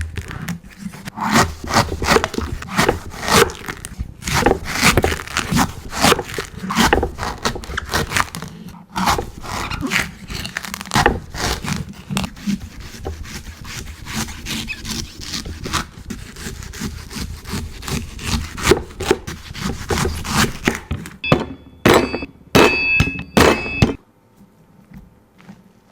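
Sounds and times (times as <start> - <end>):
knife chopping coconut: 0.0 - 24.0.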